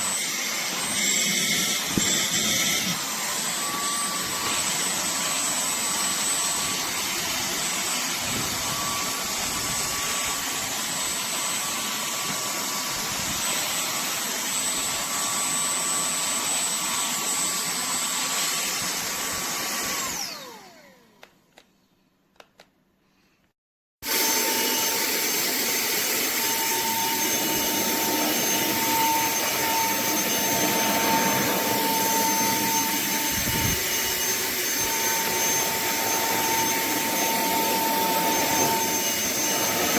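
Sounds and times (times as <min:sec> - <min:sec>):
handheld vacuum cleaner whine: 0:00.0 - 0:21.4, 0:24.0 - 0:39.9.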